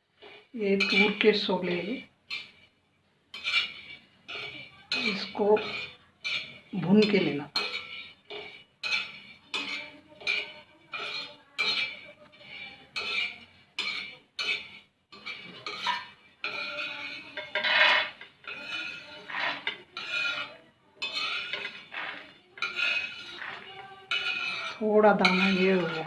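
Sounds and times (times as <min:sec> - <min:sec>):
metal spoon scraping a pan: 0:00.0 - 0:26.0.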